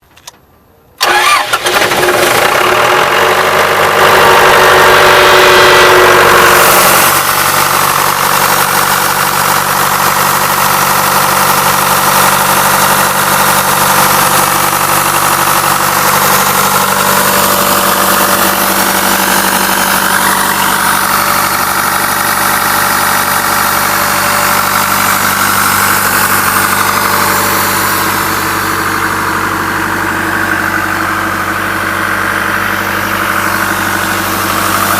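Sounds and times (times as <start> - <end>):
diesel compressor engine idling: 1.0 - 34.9.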